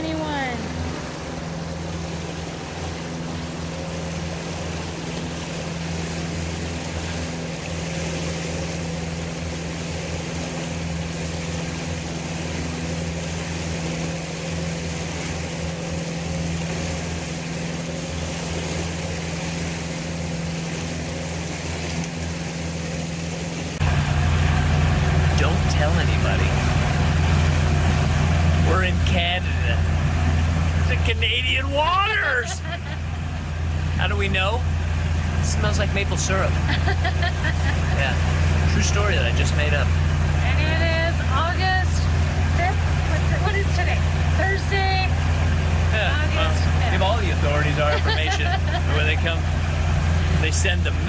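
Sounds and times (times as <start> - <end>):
boat engine humming: 0.0 - 51.0
water rushing: 0.0 - 51.0
wind: 0.0 - 51.0.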